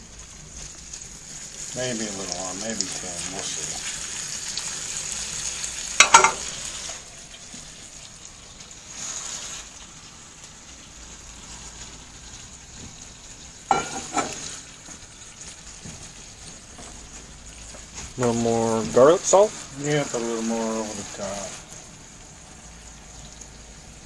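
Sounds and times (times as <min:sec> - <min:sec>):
fish and onion sizzling in a pan: 0:00.0 - 0:24.0.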